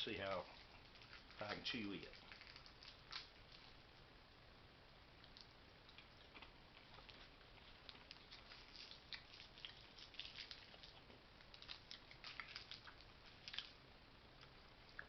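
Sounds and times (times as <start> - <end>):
person chewing gum crackling: 0.2 - 3.9, 5.2 - 15.0.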